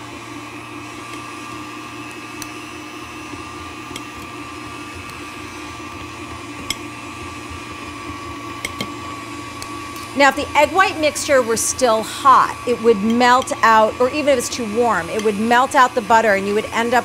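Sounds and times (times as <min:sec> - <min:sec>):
stand mixer running: 0:00.0 - 0:17.0.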